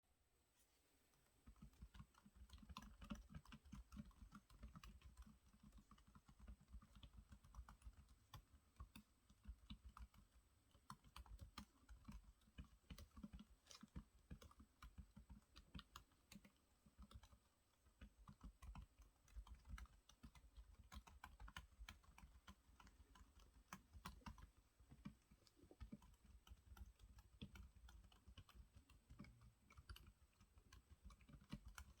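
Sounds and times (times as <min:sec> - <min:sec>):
soft keyboard typing: 0:01.1 - 0:32.0.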